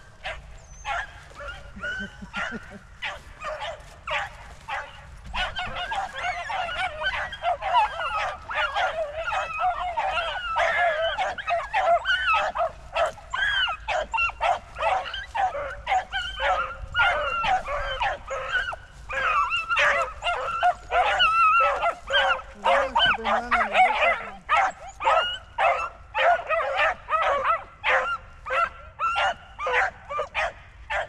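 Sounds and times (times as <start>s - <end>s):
hounds yelping: 0.0s - 31.0s.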